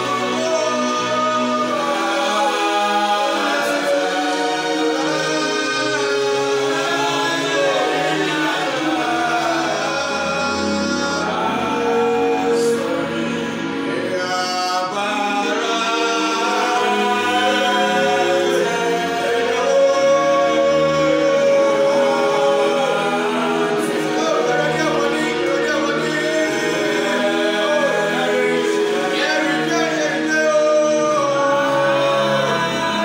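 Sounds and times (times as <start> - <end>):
male choir singing in harmony: 0.0 - 33.0.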